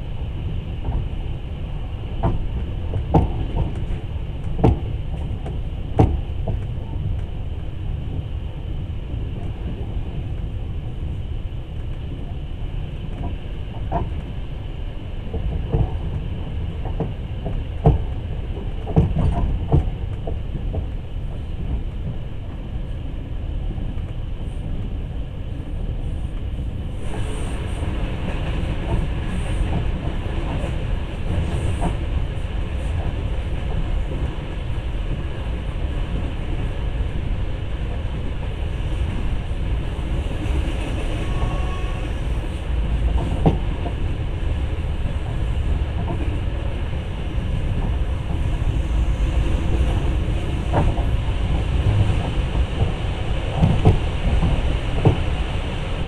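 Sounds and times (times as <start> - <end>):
train rumble inside carriage: 0.0 - 56.0.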